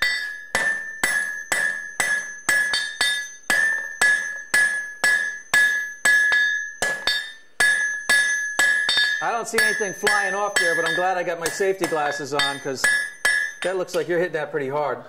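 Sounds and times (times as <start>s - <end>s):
anvil ringing: 0.0s - 14.1s
hammer striking hot steel: 0.0s - 14.1s.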